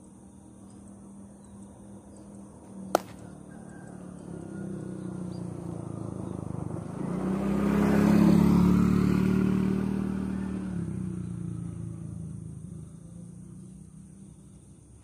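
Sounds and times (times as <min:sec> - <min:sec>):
motor vehicle passing by: 0:00.9 - 0:15.0.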